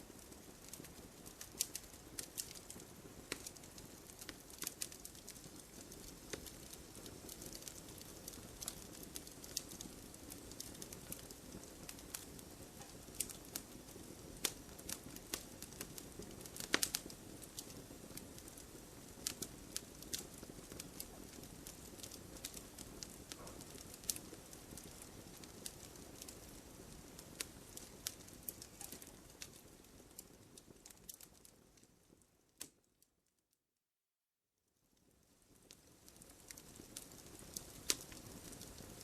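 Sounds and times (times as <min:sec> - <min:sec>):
wood popping and crackling: 0:00.2 - 0:31.5, 0:35.6 - 0:38.9.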